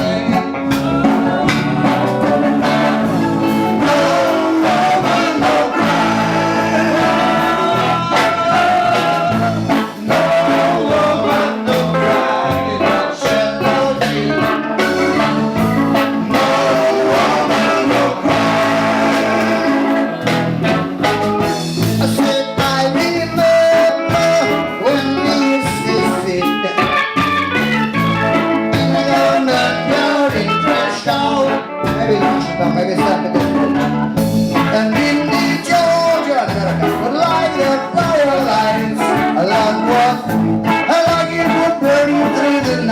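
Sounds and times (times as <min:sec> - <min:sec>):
live reggae band playing: 0:00.0 - 0:42.9.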